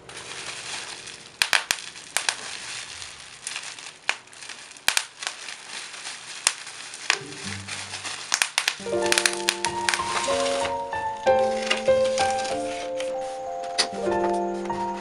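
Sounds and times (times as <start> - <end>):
bubble wrap popping: 0.0 - 13.9
bubble wrap crinkling: 0.0 - 15.0.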